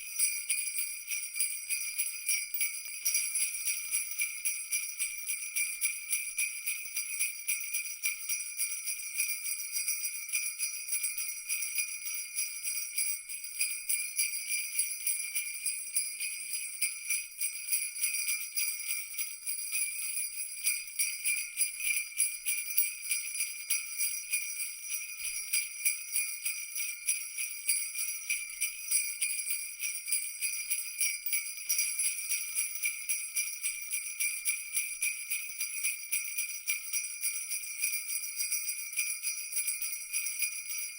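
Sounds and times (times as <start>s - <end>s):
jingle bells shaken: 0.0s - 40.9s.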